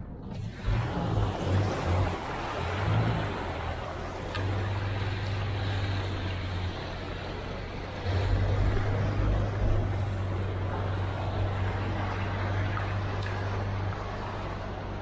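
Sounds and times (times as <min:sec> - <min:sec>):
low engine hum: 0:00.0 - 0:15.0
water churning and splashing: 0:00.0 - 0:15.0.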